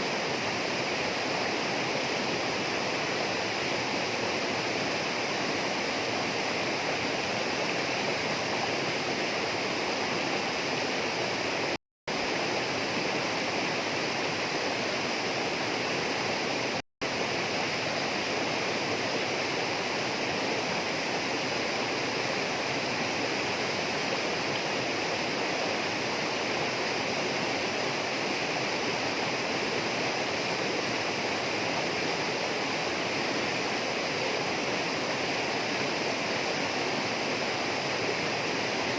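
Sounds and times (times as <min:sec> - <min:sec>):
rush of flowing water: 0:00.0 - 0:38.9.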